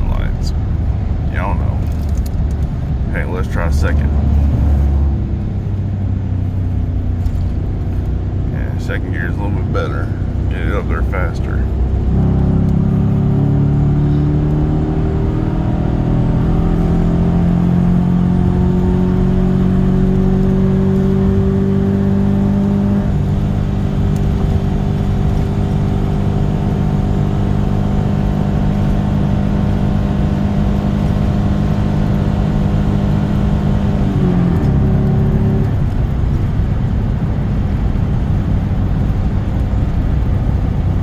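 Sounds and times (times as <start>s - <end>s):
truck engine at high revs: 0.0s - 41.0s.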